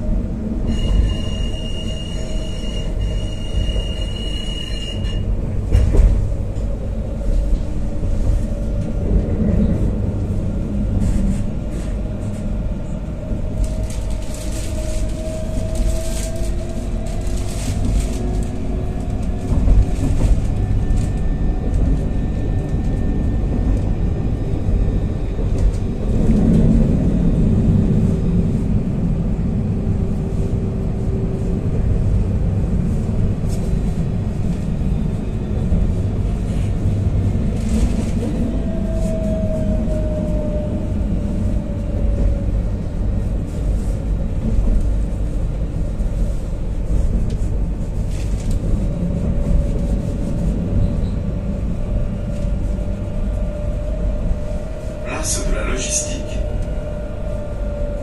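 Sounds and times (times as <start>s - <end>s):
tram wheels rumbling on track: 0.0s - 58.0s.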